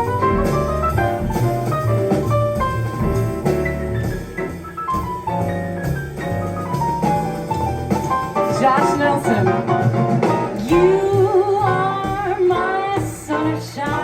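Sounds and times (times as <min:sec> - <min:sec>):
bass and drums: 0:00.0 - 0:14.0
jazz piano solo: 0:00.0 - 0:14.0.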